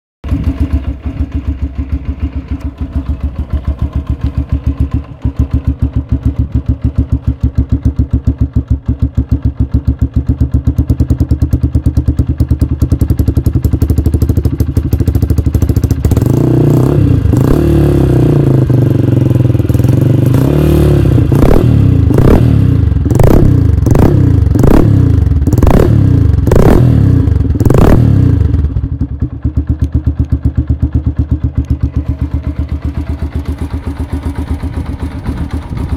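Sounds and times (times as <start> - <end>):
motorcycle engine idling and revving: 0.2 - 35.9.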